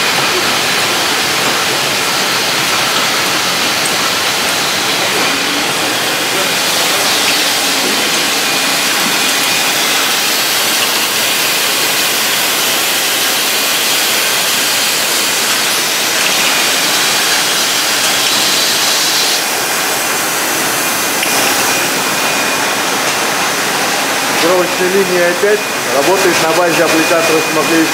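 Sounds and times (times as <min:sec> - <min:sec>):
bottling machinery noise: 0:00.0 - 0:27.9
loud steady hiss: 0:00.0 - 0:27.9.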